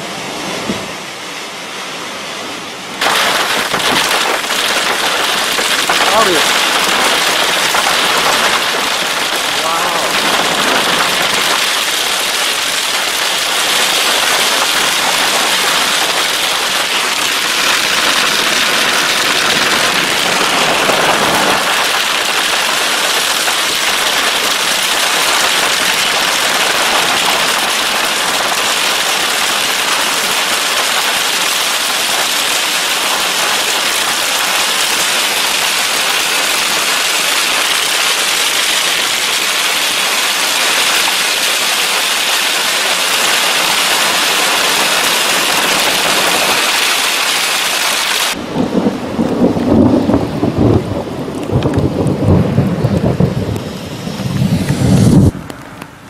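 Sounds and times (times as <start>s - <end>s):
torrential rain pouring: 0.0s - 56.0s.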